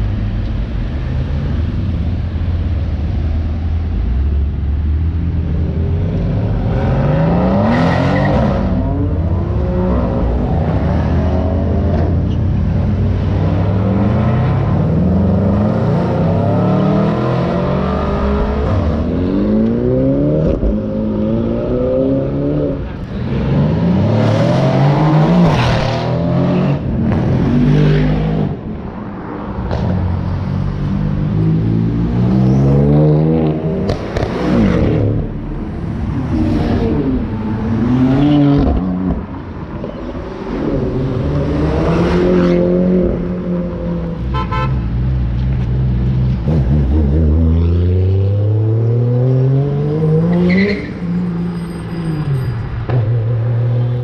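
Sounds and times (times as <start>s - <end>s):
car engines revving: 0.0s - 54.0s
low traffic drone: 0.0s - 54.0s.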